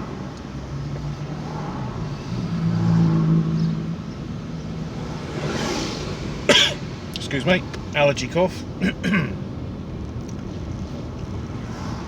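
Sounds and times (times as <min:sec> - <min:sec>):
car engine: 0:00.0 - 0:12.0
road noise inside car: 0:00.0 - 0:12.0.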